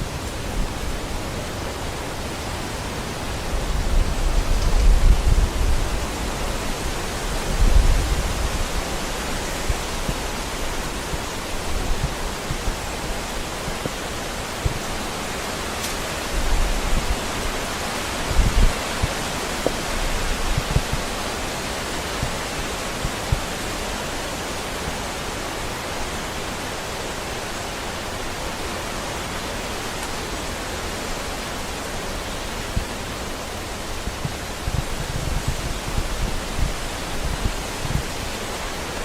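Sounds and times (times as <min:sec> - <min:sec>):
steady rushing hiss: 0:00.0 - 0:39.0.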